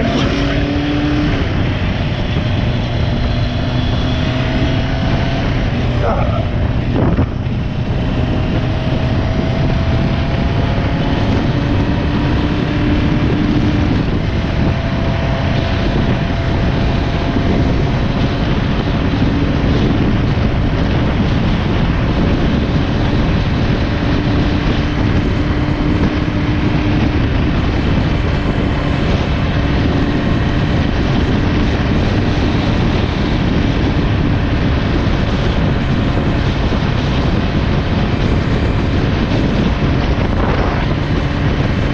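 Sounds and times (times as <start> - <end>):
faint engine hum: 0.0 - 41.9
motorcycle engine rumble: 0.0 - 41.9
wind rush on microphone: 0.0 - 41.9.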